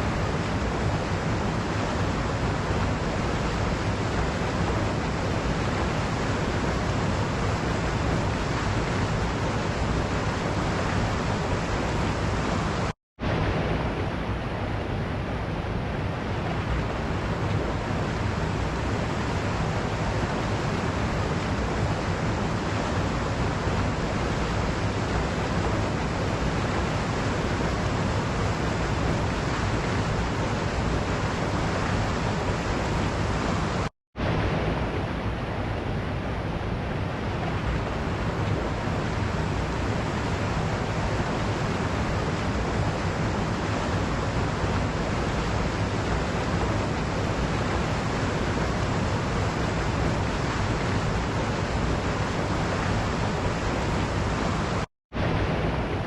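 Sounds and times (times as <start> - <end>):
waterfall rushing: 0.0 - 14.0, 16.2 - 56.0.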